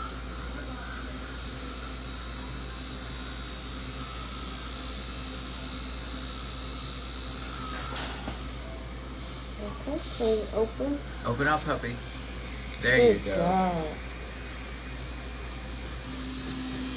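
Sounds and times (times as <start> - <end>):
dental equipment hissing: 0.0 - 16.9.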